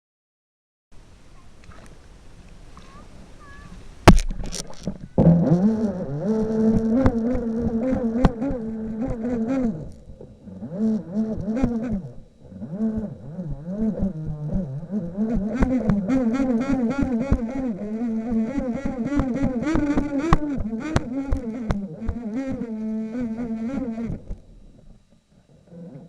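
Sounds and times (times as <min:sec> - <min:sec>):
toy boat motor buzzing: 0:04.4 - 0:26.0.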